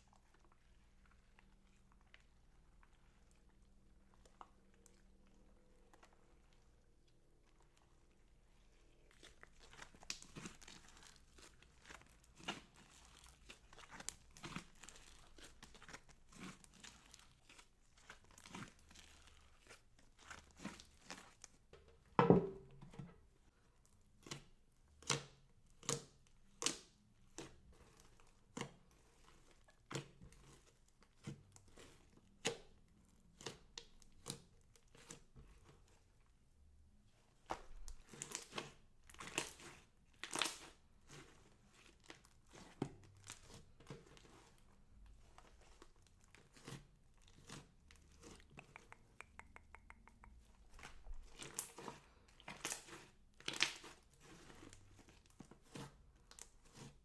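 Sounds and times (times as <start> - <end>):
slime squelch: 0.0 - 21.7, 23.5 - 57.0.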